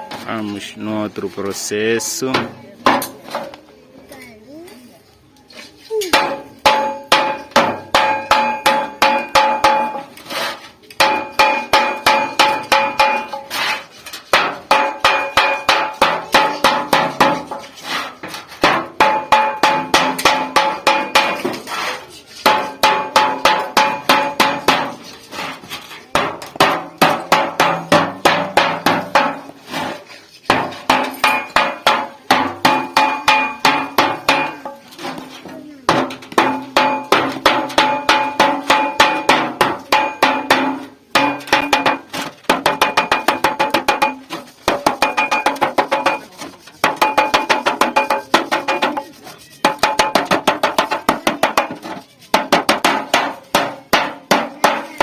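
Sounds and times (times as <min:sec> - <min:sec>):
hammer striking sheet metal: 0:06.1 - 0:10.1, 0:11.0 - 0:21.8, 0:22.4 - 0:25.0, 0:26.2 - 0:35.3, 0:35.9 - 0:55.0.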